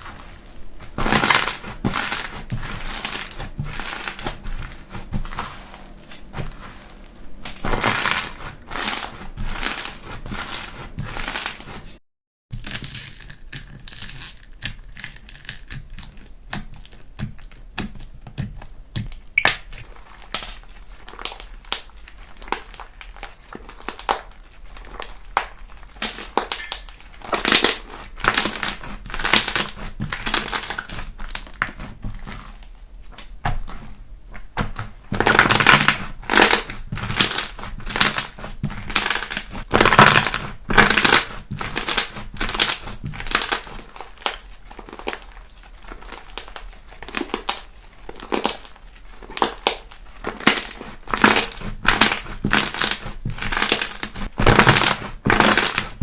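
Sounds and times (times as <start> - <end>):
slime crackling popping squishes: 0.0 - 12.0, 12.6 - 56.0.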